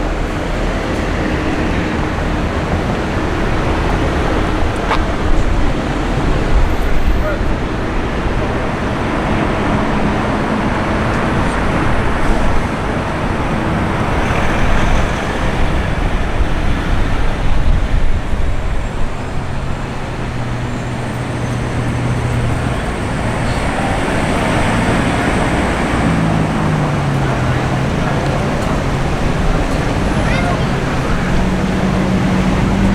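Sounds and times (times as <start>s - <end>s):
engine hum: 0.0s - 32.9s
passing cars: 0.0s - 32.9s.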